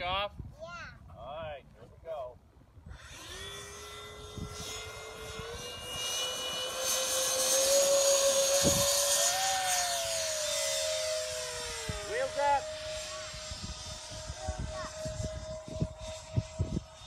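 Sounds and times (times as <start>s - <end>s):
electric ducted fans whining: 2.8s - 17.0s
passing jet whine: 2.9s - 17.0s.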